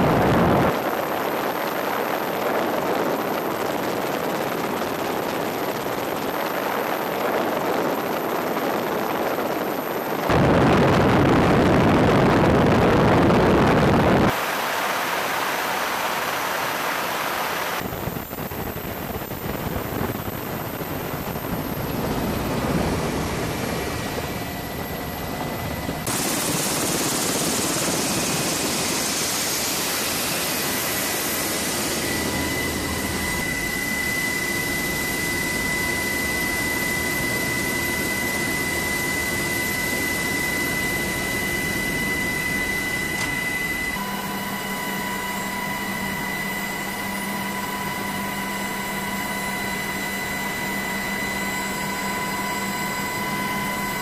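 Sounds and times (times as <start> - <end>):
helicopter engines and rotor: 0.0 - 54.0.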